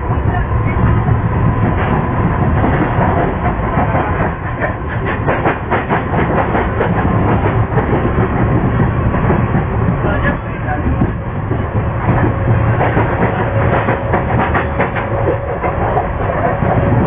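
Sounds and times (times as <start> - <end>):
train wheels rumbling on rails: 0.0 - 17.0
clacks over rail joints: 0.2 - 17.0.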